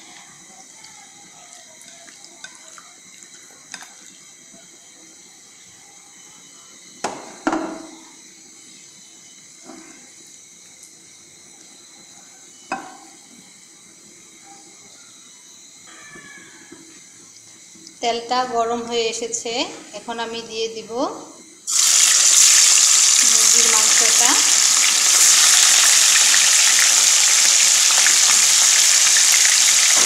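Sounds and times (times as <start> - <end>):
gas stove burner hiss: 0.0 - 30.0.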